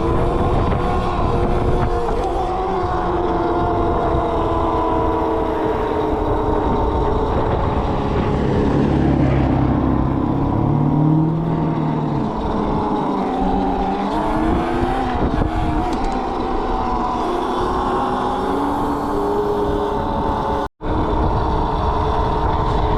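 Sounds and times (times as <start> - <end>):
electric motor whining: 0.0 - 22.9
wind and road noise: 0.0 - 22.9.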